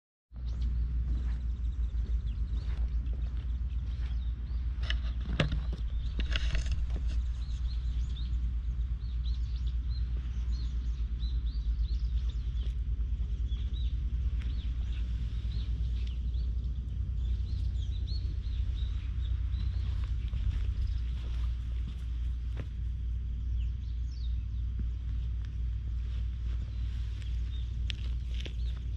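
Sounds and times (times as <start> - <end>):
low rumble: 0.3 - 28.9
small birds chirping: 0.3 - 28.9.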